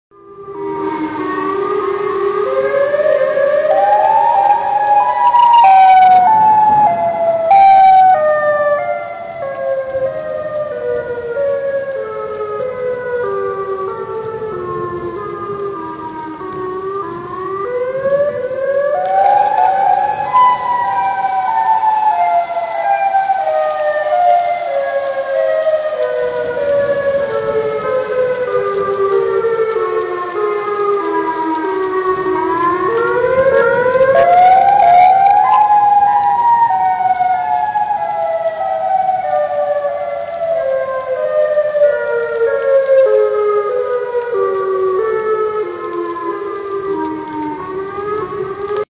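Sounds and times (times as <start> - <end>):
warning siren wailing: 0.1 - 48.9.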